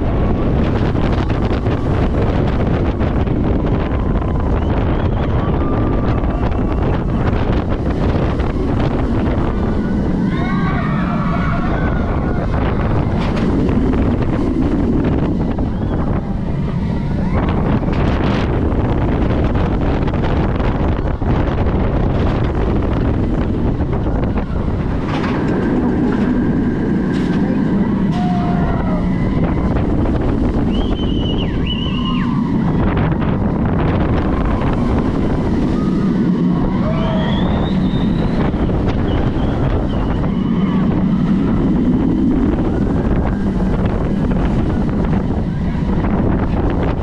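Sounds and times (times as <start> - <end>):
roller coaster train rumbling: 0.0 - 47.0
wind rushing over microphone: 0.0 - 47.0.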